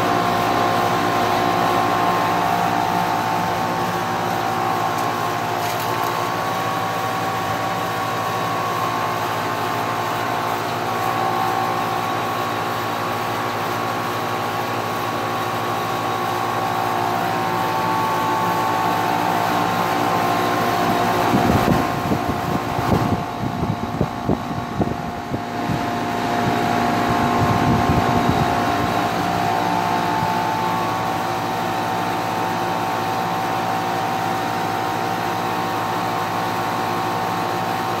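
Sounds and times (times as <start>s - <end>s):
air conditioner unit humming: 0.0s - 38.0s
fan air buffeting microphone: 0.0s - 38.0s.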